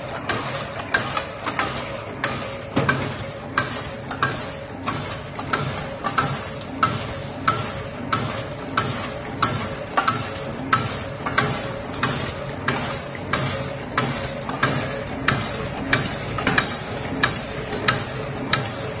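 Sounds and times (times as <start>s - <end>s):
machinery rattling and humming: 0.0s - 19.0s.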